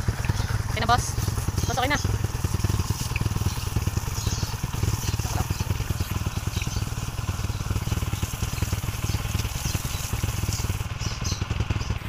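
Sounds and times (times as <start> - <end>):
garden hose spraying water: 0.0 - 12.0
motorcycle engine idling: 0.0 - 12.0.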